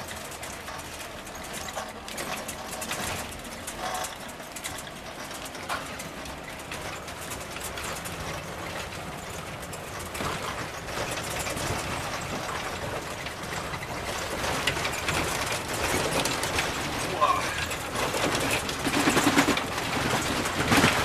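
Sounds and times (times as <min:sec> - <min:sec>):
road noise: 0:00.0 - 0:21.0
vehicle engine: 0:00.0 - 0:21.0.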